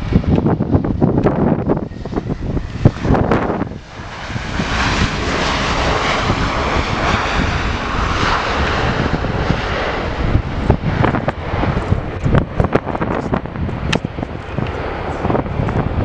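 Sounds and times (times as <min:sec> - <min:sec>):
jet airliner engines rushing: 0:00.0 - 0:16.0.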